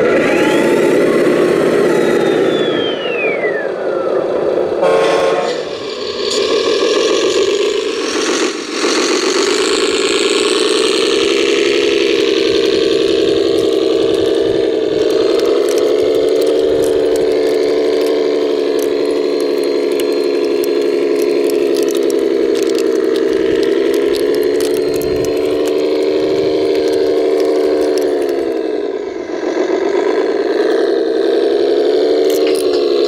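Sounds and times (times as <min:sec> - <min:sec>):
toy tracked vehicle humming: 0:00.0 - 0:33.0.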